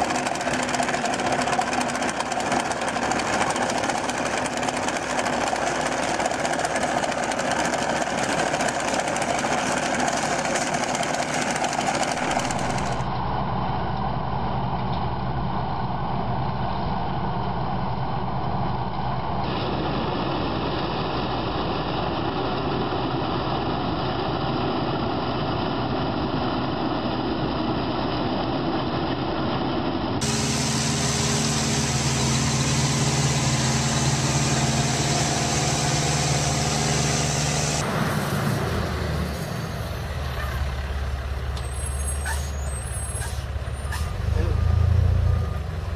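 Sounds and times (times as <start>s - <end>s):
tractor engine drone: 0.0s - 45.9s.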